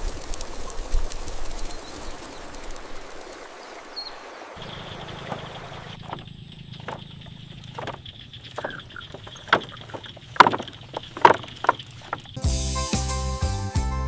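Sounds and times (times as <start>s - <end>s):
bird chirps and clicks: 0.0s - 12.4s.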